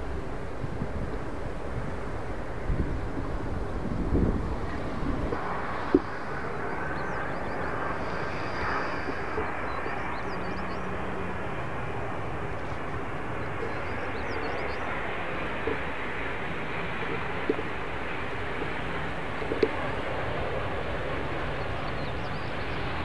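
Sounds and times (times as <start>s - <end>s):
jet engine rushing: 0.0s - 23.0s.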